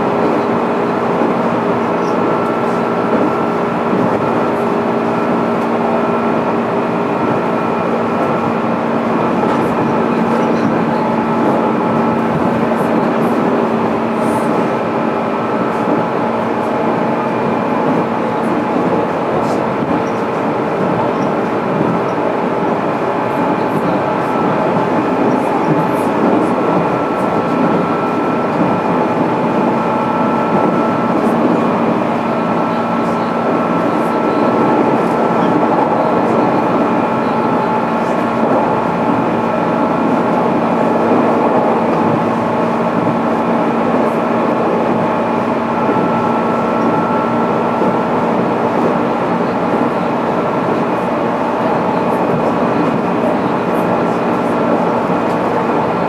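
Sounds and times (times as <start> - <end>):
train wheels on rail: 0.0 - 56.0.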